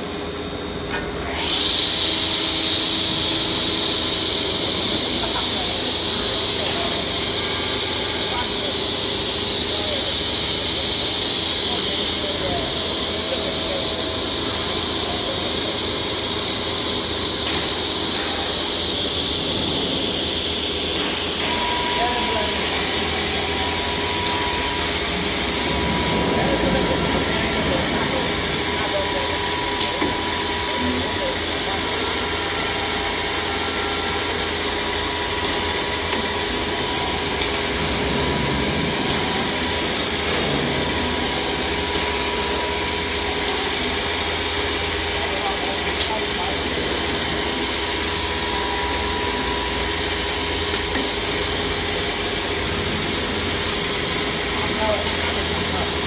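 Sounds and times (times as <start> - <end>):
dust extraction hum: 0.0 - 56.0
machine hiss with whine: 0.0 - 56.0.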